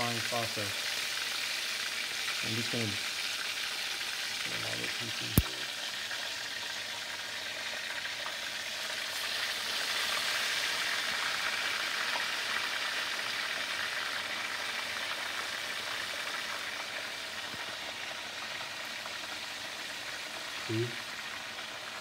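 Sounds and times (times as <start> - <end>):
meat sizzling in hot oil: 0.0 - 22.0.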